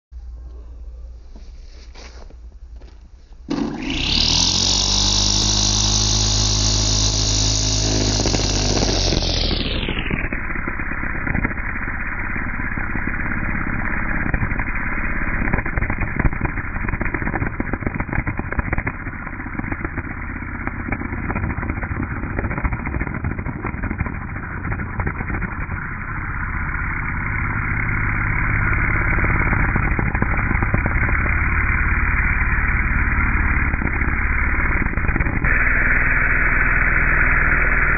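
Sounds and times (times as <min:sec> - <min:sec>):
electric string trimmer running: 0:03.5 - 0:37.9.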